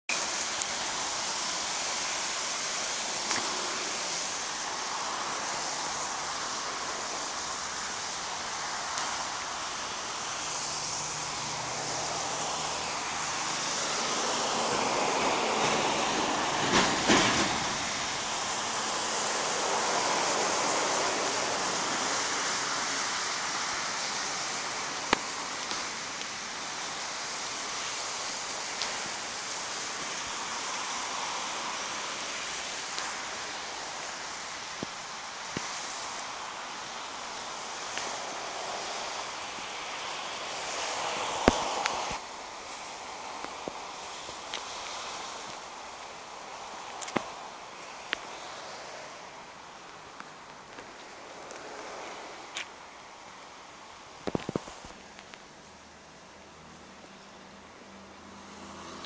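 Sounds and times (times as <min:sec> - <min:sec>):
tyre hiss on wet road: 0:00.1 - 0:59.0.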